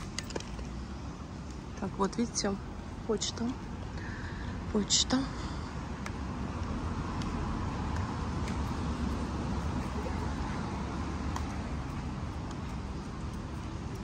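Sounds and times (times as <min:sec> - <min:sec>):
passing traffic hum: 0:00.0 - 0:14.0.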